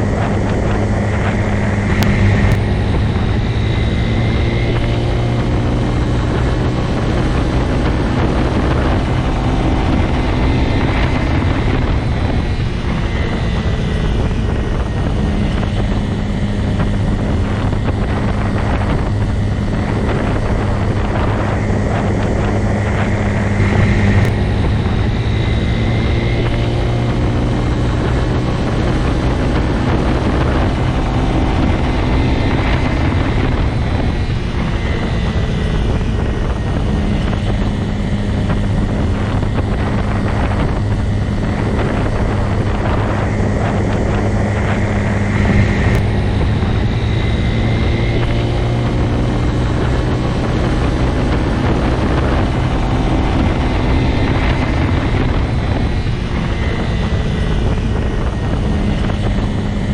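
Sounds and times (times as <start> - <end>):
constant rushing noise: 0.0 - 59.9
motorcycle engine running: 0.0 - 59.9.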